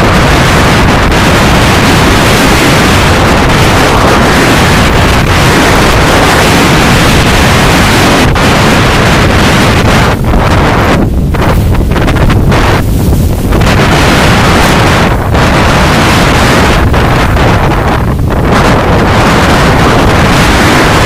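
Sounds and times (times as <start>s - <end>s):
strong wind on microphone: 0.0s - 21.0s
surf crashing on rocks: 0.0s - 21.0s.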